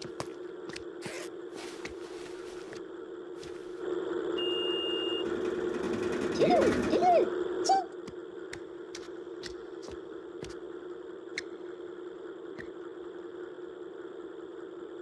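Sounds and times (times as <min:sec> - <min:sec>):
droning hum: 0:00.0 - 0:15.0.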